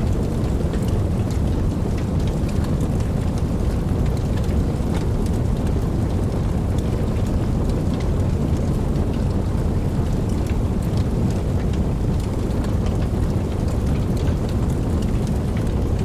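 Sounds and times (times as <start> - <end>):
rain drop taps: 0.0 - 16.0
steady rain: 0.0 - 16.0.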